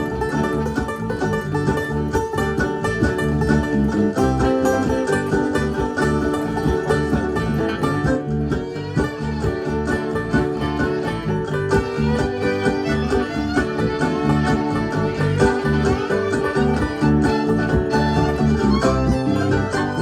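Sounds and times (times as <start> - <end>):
acoustic bluegrass band playing: 0.0 - 20.0.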